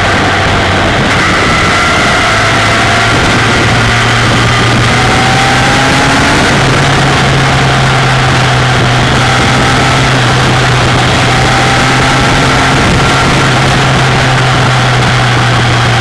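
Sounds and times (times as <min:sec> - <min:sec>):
motorcycle engine running: 0:00.0 - 0:16.0
rush of wind: 0:00.0 - 0:16.0.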